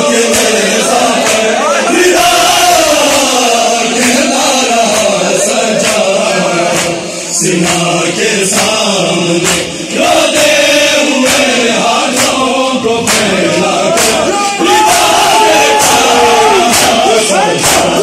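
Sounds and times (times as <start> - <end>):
crowd of men chanting: 0.0 - 18.0.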